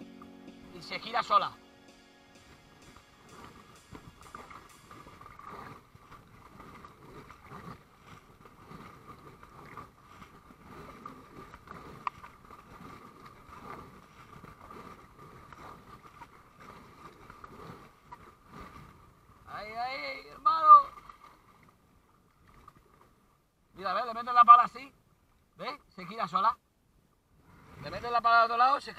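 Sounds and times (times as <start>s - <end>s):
paddle strokes swishing in water: 0.0s - 23.5s, 27.3s - 28.8s.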